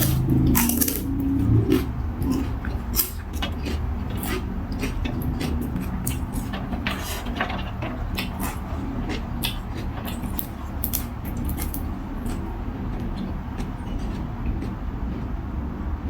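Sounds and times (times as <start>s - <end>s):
chewing crunches: 0.0s - 15.3s
steady low hum: 0.0s - 16.0s.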